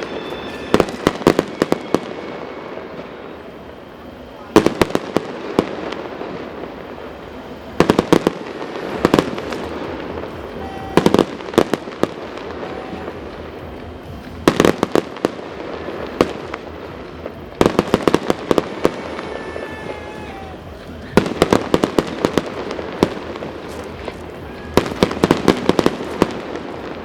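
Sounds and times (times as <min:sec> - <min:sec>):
crackling hiss of fireworks: 0:00.0 - 0:27.0
sharp firework bangs: 0:04.5 - 0:27.0.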